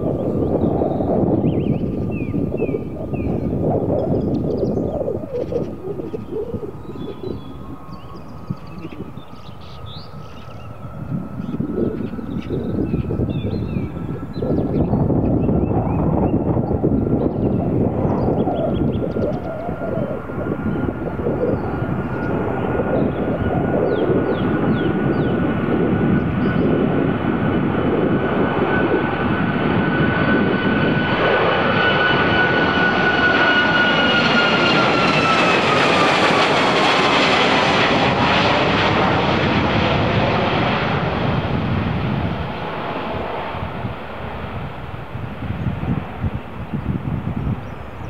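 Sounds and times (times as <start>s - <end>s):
jet airliner engine noise: 0.0s - 48.0s.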